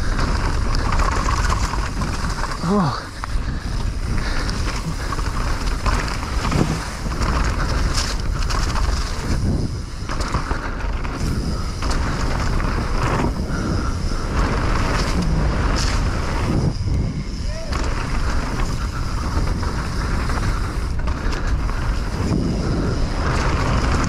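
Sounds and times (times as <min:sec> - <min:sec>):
bike knocking and rattling: 0:00.0 - 0:24.0
bike tyres rumbling on dirt: 0:00.0 - 0:24.0
wind buffeting microphone: 0:00.0 - 0:24.0.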